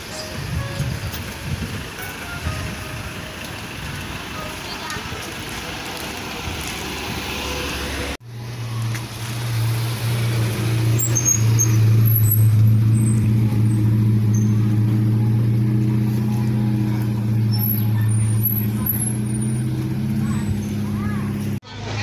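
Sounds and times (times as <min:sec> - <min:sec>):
engine droning: 0:00.0 - 0:21.9
outdoor background noise: 0:00.0 - 0:22.0.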